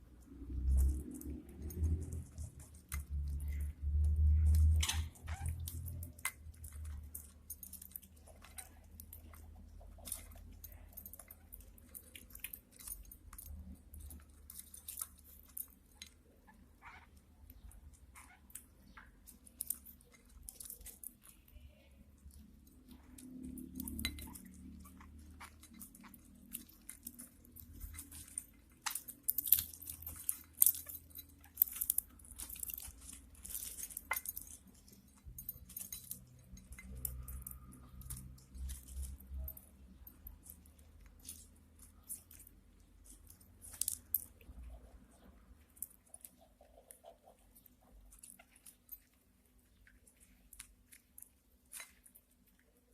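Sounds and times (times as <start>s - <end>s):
birds pecking and cracking food: 0.0s - 52.9s.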